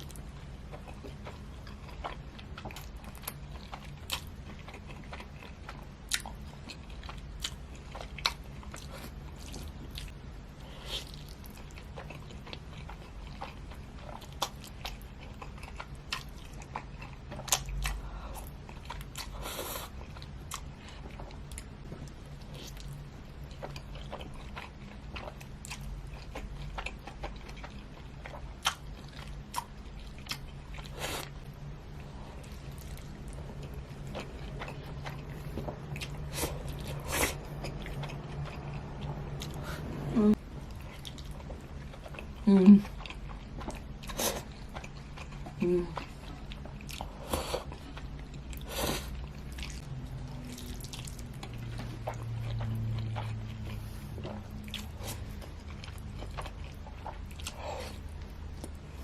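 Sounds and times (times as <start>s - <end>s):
faint low hum: 0.0s - 59.0s
person chewing food: 0.0s - 59.0s.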